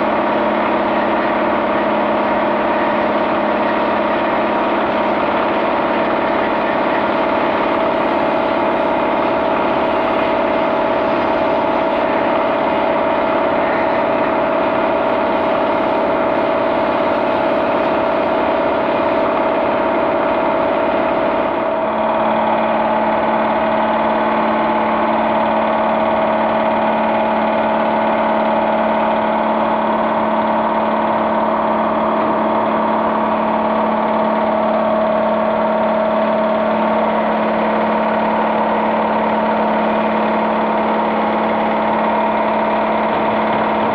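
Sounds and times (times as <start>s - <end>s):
mechanical engine-like drone: 0.0s - 43.9s.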